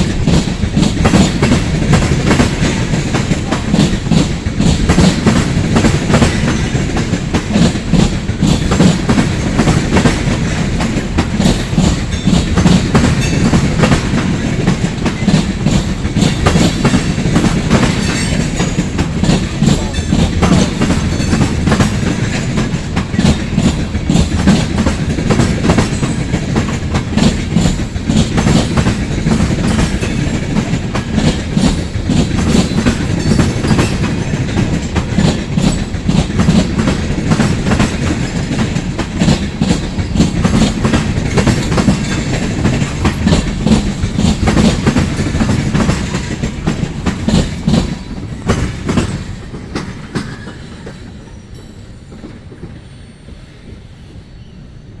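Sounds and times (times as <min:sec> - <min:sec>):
wheels clicking over rail joints: 0:00.0 - 0:51.3
freight train rolling past: 0:00.0 - 0:55.0.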